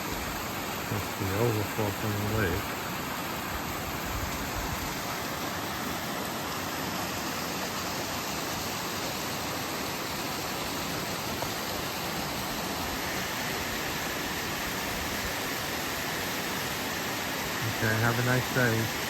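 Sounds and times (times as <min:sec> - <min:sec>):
water rushing over overflow: 0:00.0 - 0:19.0.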